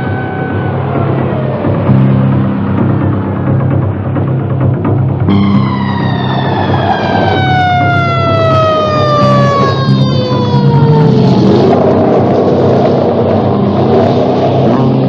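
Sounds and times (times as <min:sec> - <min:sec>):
siren winding down: 0:00.0 - 0:03.6, 0:05.3 - 0:15.0
background music: 0:00.0 - 0:15.0.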